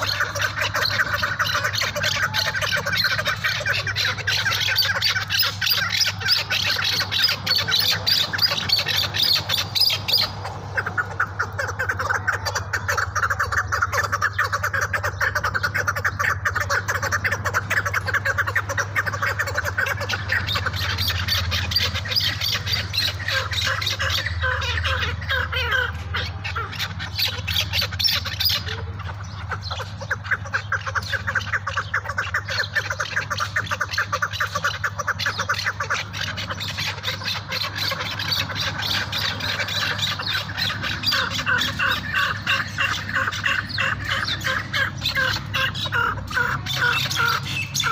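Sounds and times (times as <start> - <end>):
partridges clucking chatter: 0.0 - 47.9.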